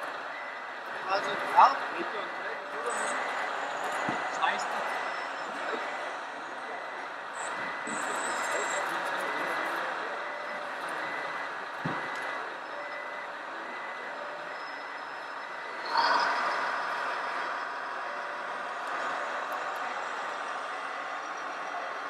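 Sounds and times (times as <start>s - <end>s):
steady hall background noise: 0.0s - 22.0s.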